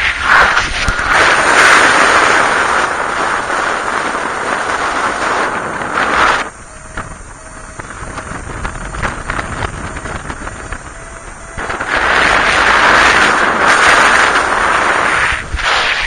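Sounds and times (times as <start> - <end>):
wind rushing across microphone: 0.0 - 16.0.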